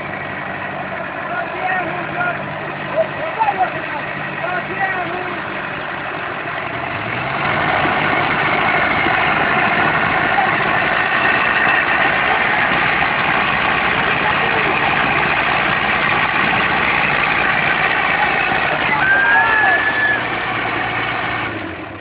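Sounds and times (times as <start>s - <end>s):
tractor diesel engines under load: 0.0s - 22.0s.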